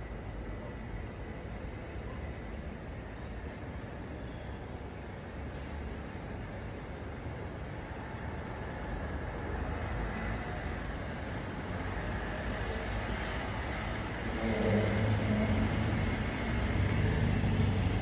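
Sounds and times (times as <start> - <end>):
city traffic rumble and hiss: 0.0 - 18.0.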